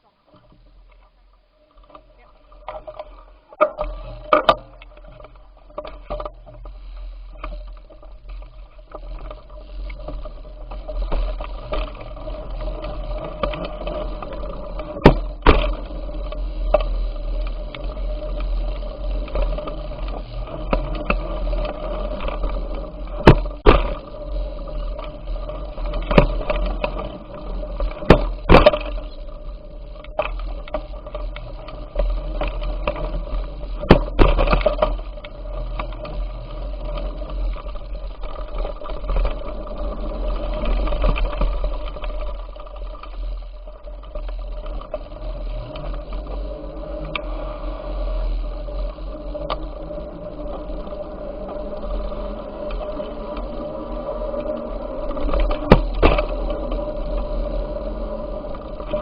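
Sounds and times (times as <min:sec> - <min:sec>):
bicycle rattling over bumps: 0:00.0 - 0:59.0
bicycle rolling: 0:00.0 - 0:59.0.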